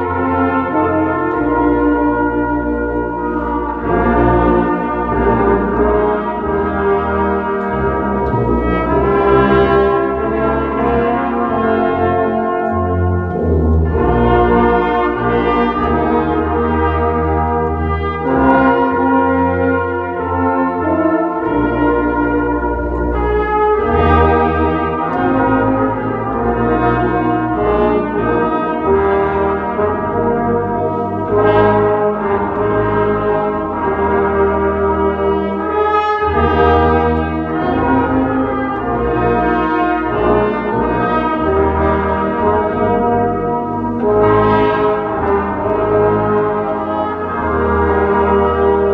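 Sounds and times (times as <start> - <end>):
brass ensemble playing chords: 0.0 - 48.9.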